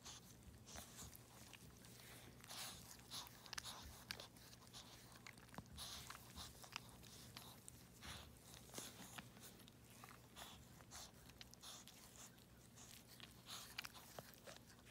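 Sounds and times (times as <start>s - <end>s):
dog licking puppy: 0.0s - 14.9s
rustling of fur and blanket: 0.0s - 14.9s.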